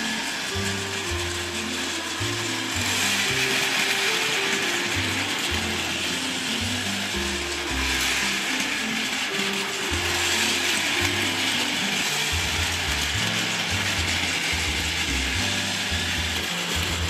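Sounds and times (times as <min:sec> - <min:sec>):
toy trains whirring and clattering: 0:00.0 - 0:17.0.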